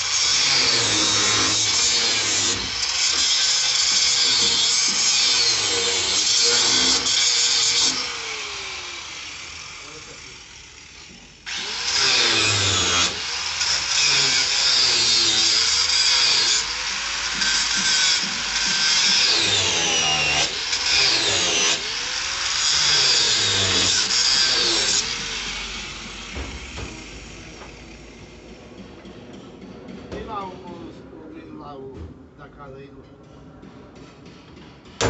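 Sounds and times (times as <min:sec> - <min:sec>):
angle grinder grinding metal: 0:00.0 - 0:28.4.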